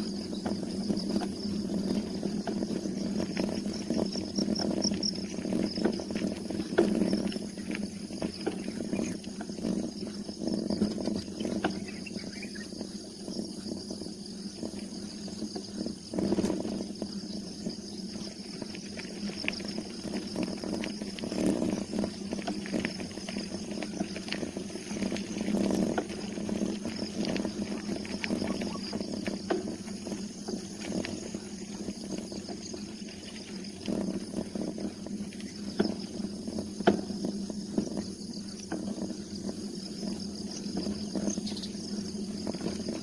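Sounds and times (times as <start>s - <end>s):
bicycle rattling and rumbling: 0.0s - 43.0s.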